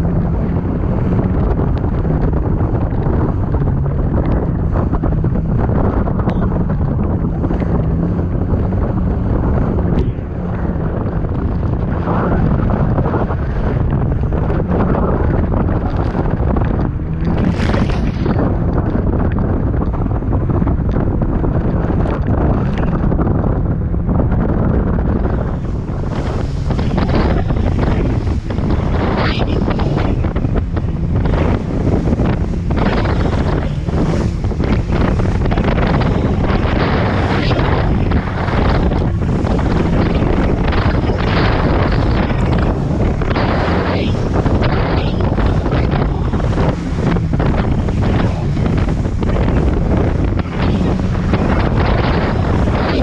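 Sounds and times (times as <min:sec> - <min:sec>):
jet ski engine running: 0:00.0 - 0:53.0
wind buffeting microphone: 0:00.0 - 0:53.0.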